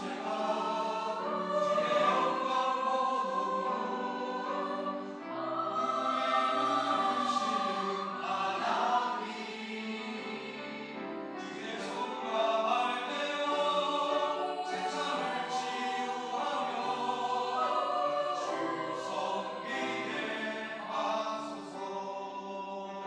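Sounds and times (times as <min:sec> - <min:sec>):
church choir singing: 0:00.0 - 0:23.0.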